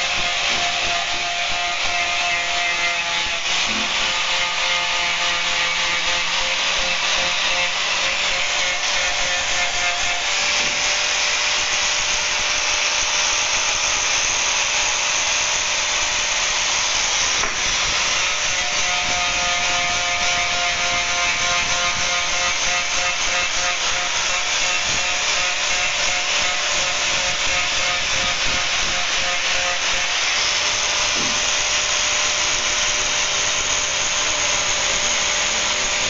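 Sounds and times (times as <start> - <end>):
angle grinder motor whine: 0.0 - 36.0
sanding disc abrading wood: 0.0 - 36.0.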